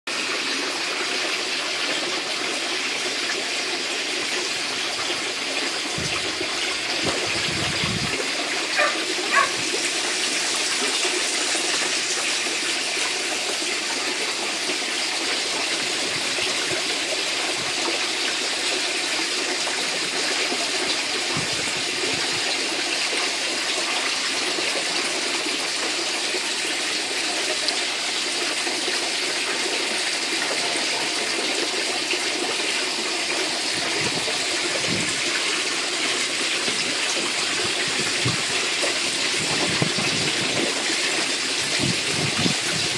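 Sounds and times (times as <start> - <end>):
water pouring and splashing: 0.1 - 42.9.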